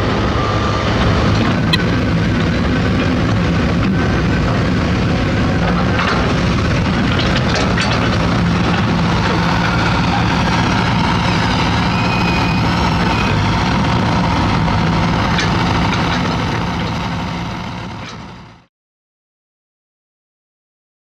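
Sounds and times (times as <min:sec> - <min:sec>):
diesel machinery droning: 0:00.0 - 0:18.7.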